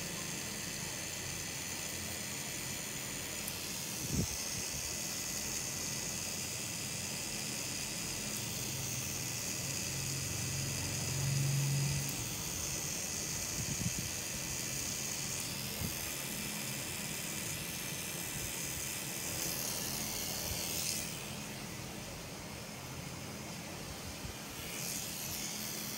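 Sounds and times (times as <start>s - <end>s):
tattoo machine motor hum: 0.0s - 25.9s.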